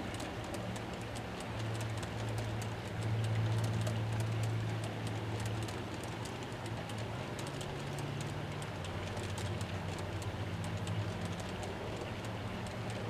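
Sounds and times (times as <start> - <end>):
model train wheels clicking: 0.0 - 13.0
steady low hum: 0.0 - 13.0.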